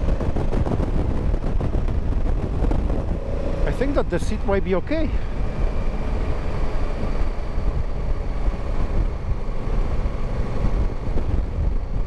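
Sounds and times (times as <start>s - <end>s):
motorcycle engine rumble: 0.0s - 12.0s
rush of riding wind: 0.0s - 12.0s.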